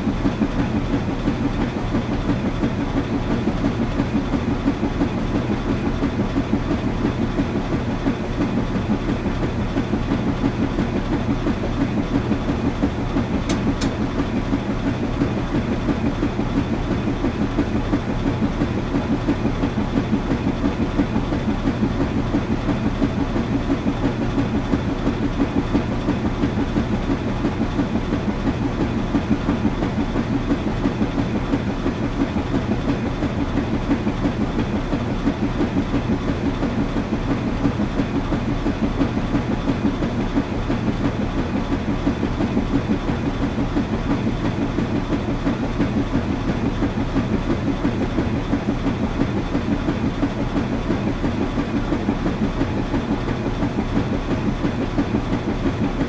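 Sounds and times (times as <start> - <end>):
washing machine running: 0.0 - 56.0.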